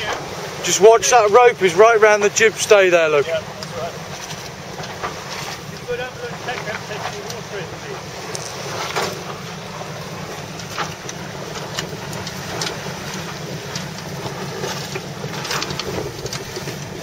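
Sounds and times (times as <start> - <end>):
water rushing around bow: 0.0 - 17.0.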